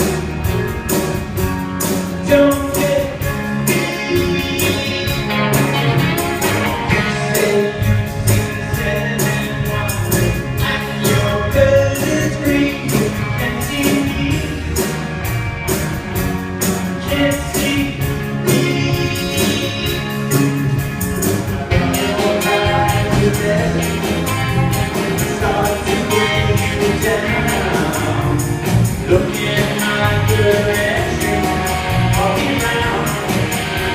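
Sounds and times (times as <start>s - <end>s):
band with percussive beat: 0.0s - 33.9s
person singing: 2.2s - 14.8s, 17.0s - 20.3s, 21.6s - 33.9s.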